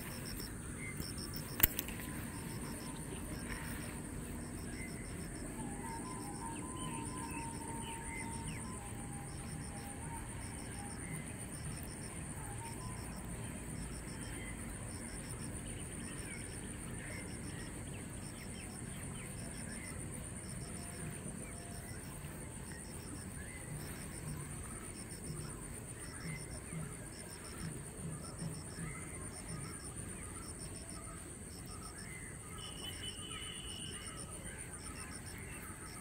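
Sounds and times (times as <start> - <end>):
faint bird chirps: 0.0 - 36.0
high-pitched insect drone: 0.0 - 36.0
insect chirping in pulses: 0.0 - 36.0.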